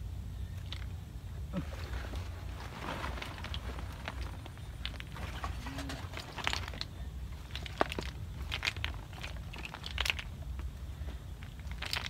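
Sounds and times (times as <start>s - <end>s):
fish trap crackling and rustling: 0.6s - 12.0s.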